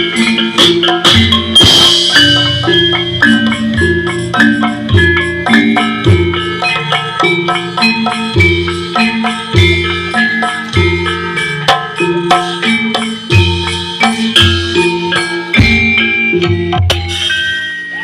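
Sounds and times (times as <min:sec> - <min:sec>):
metallophones playing melody: 0:00.0 - 0:18.0.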